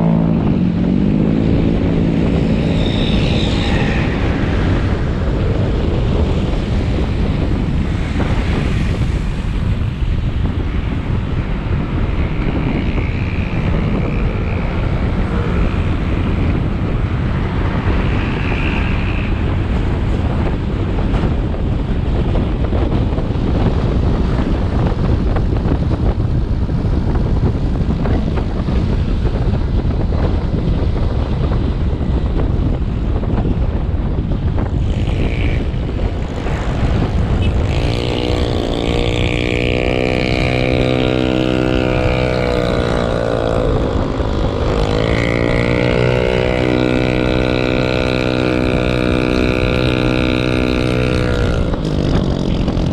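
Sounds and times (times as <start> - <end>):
motorcycle engine running: 0.0 - 52.9
road noise: 0.0 - 52.9
wind noise on microphone: 0.0 - 52.9.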